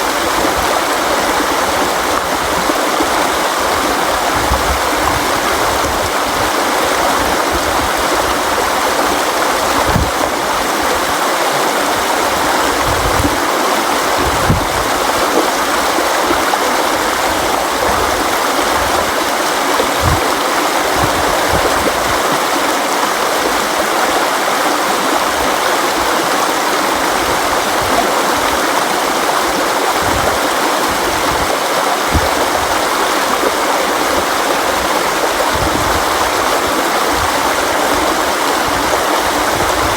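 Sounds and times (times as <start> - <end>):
river water rushing: 0.0 - 39.9
water gurgles and splashes: 0.0 - 39.9.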